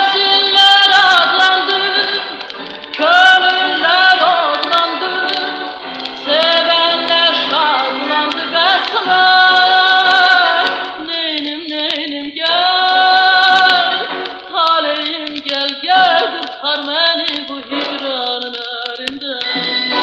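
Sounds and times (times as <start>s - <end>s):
instrumental accompaniment: 0.0s - 11.5s, 12.5s - 20.0s
woman singing with vibrato: 0.0s - 20.0s.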